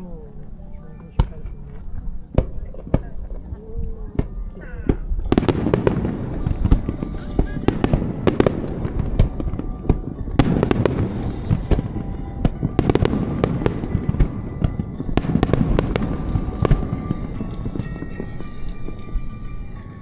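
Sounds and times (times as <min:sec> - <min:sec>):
fireworks bangs and crackling: 0:01.0 - 0:20.0
low rumble of booms: 0:01.1 - 0:20.0.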